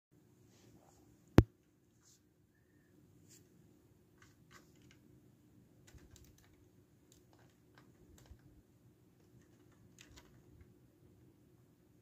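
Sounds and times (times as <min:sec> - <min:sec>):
low room hum: 0:00.2 - 0:12.0.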